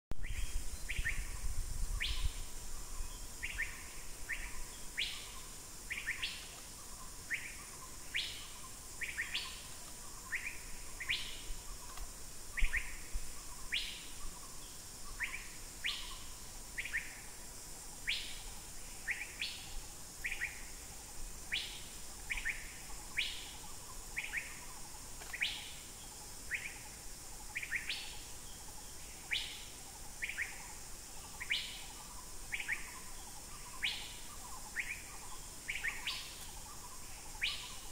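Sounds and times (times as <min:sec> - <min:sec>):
steady high hiss: 0:00.2 - 0:37.9.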